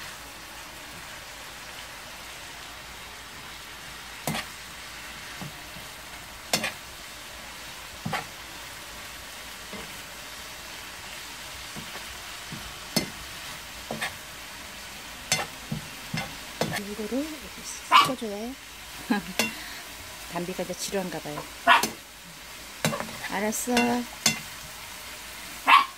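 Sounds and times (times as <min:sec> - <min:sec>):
food sizzling in a frying pan: 0:00.0 - 0:25.9.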